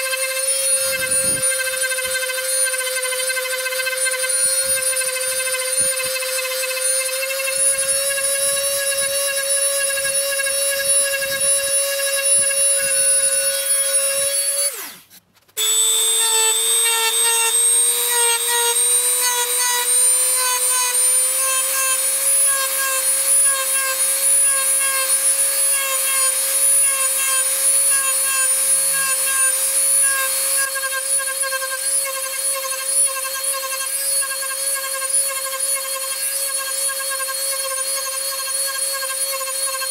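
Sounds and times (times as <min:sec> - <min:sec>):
rotary tool whine carving wood: 0:00.0 - 0:39.9.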